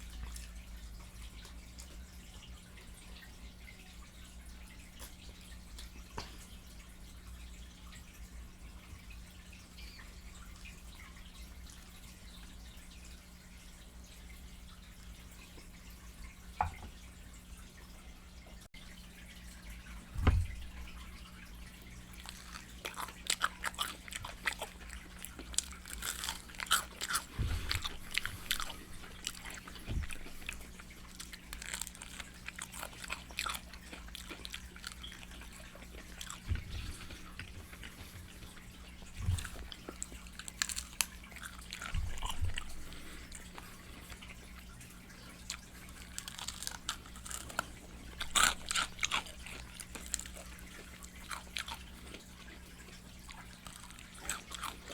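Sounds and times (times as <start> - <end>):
chewing crispy fried chicken: 0.0 - 16.7, 19.6 - 54.9
faint steady hum: 0.0 - 54.9.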